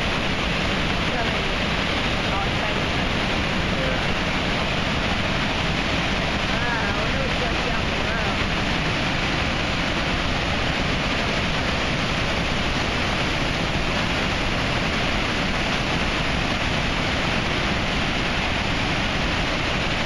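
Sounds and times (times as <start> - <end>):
water pouring over waterfall: 0.0 - 20.0.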